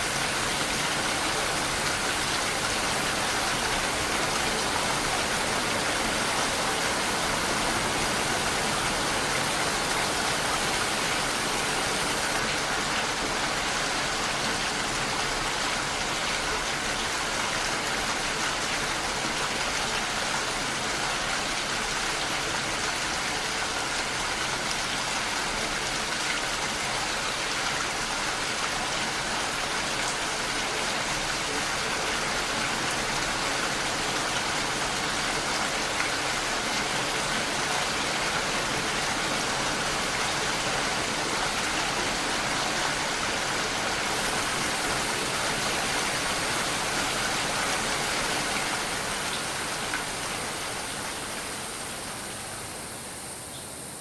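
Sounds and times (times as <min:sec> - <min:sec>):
dense rainfall hiss: 0:00.0 - 0:54.0.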